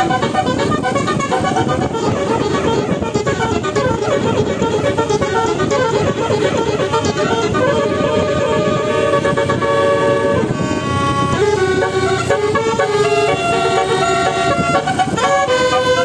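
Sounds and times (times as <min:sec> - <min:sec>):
steady low rumble: 0:00.0 - 0:15.5
multi-tone bus horns playing tune: 0:00.0 - 0:16.0.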